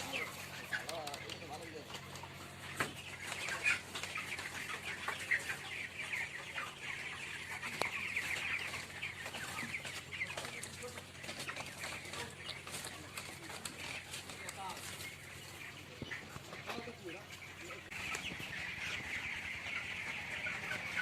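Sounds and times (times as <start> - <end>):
chickens chirping and clucking: 0.0 - 21.0.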